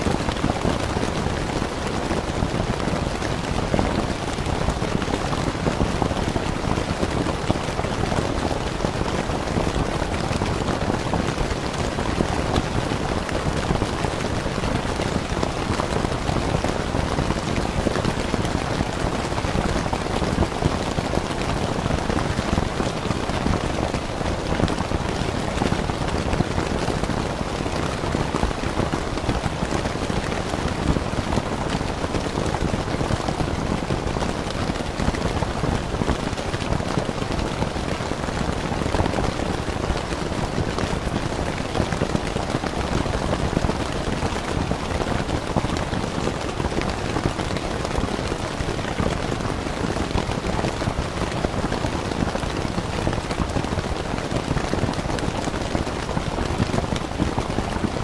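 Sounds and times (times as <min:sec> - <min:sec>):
rain on a tent: 0:00.0 - 0:58.0.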